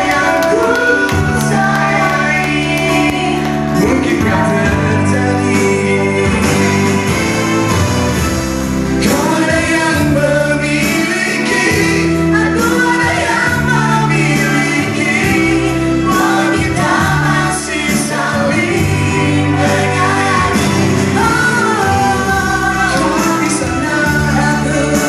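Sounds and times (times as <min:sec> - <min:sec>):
man and woman singing duet: 0:00.0 - 0:07.3, 0:09.0 - 0:25.0
backing track with bass notes: 0:00.0 - 0:25.0.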